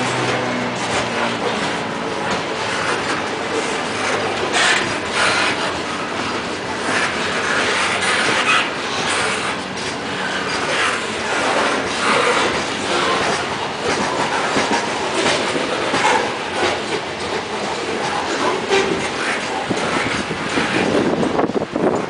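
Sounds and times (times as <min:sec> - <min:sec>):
train wheels rumbling on rails: 0:00.0 - 0:22.0
wheels clacking over rail joints: 0:00.0 - 0:22.0.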